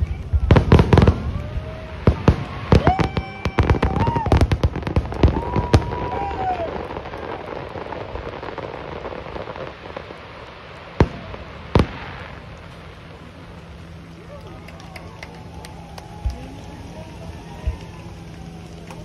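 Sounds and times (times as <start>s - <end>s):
firework bangs: 0.0s - 19.0s
firework crackle: 0.0s - 19.0s
firework whistling: 0.0s - 19.0s.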